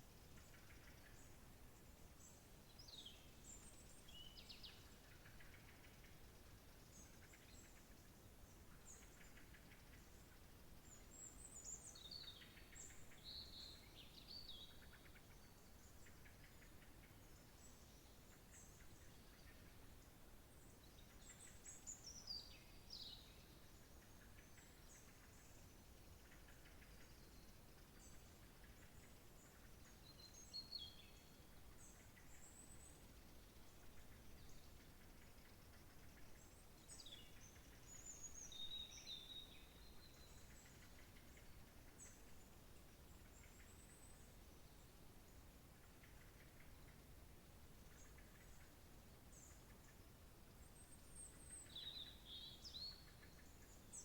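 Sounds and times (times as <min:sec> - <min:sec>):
faint birdsong: 0:00.0 - 0:54.0
low steady background hiss: 0:00.0 - 0:54.0.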